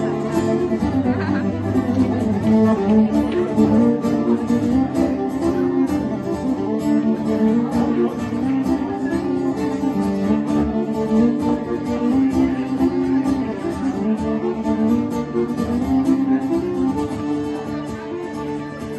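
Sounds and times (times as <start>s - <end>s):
acoustic guitar plucked and strummed: 0.0s - 18.9s
bowed fiddle notes: 0.0s - 18.9s.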